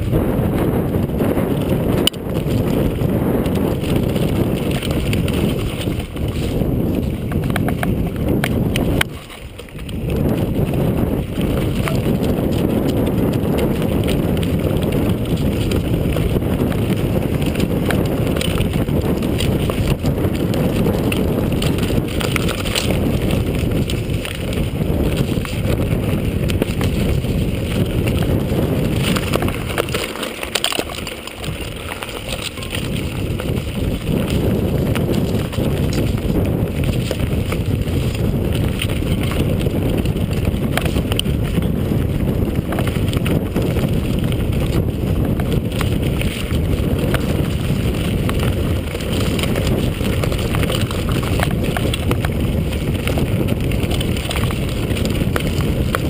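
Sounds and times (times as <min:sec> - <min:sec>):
footsteps on rocky trail: 0:00.0 - 0:56.0
wind rumbling on microphone: 0:00.0 - 0:56.0.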